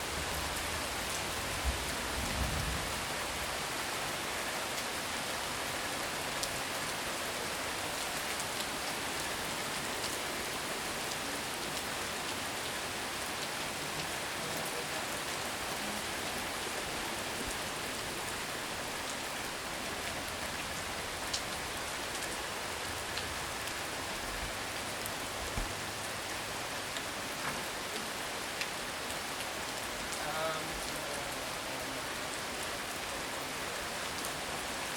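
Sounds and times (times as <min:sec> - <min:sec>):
heavy rain hiss: 0:00.0 - 0:34.9
raindrops ticking on surfaces: 0:00.0 - 0:34.9.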